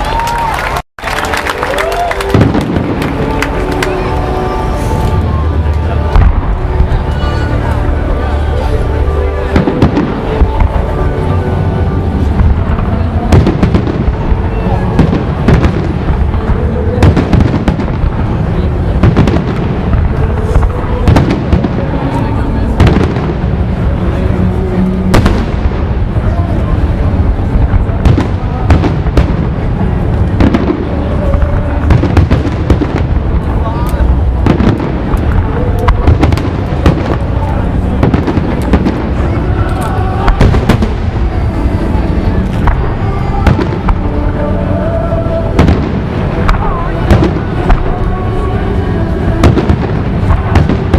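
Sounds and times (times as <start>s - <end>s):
fireworks bangs: 0.0s - 50.9s
music playing: 0.0s - 50.9s
deep rumble: 2.3s - 50.9s.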